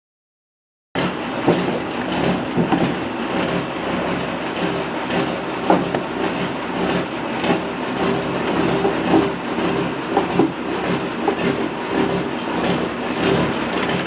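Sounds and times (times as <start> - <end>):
truck engine running: 1.0 - 14.0.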